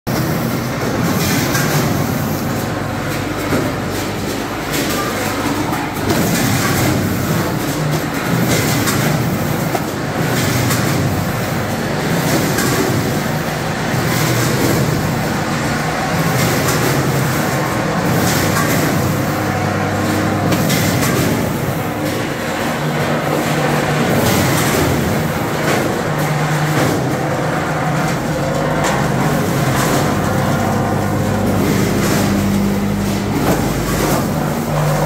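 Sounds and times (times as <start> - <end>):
machine clacking: 0.1 - 35.0
packaging machine humming: 0.1 - 35.0.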